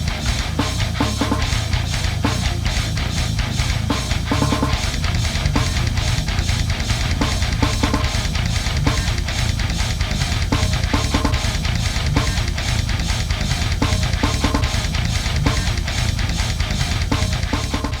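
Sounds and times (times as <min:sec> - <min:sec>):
distorted electric guitar: 0:00.0 - 0:18.0
drum kit beat: 0:00.0 - 0:18.0.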